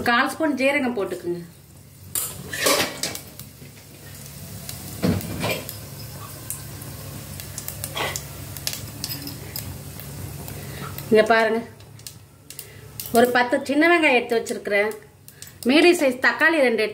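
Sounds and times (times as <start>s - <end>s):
spices sizzling in hot oil: 0.0s - 16.9s.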